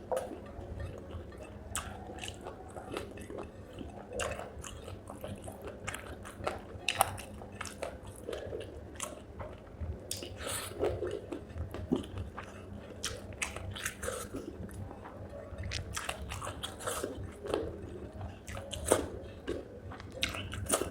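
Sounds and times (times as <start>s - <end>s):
wet crunchy chewing: 0.0s - 20.9s.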